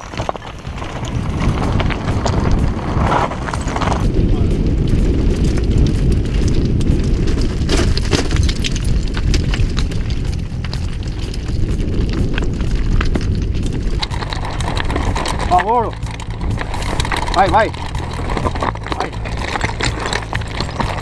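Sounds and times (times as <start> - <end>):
bike rattling: 0.0 - 21.0
tyres knocking on loose stones: 0.0 - 21.0
wind rumbling on microphone: 0.0 - 21.0.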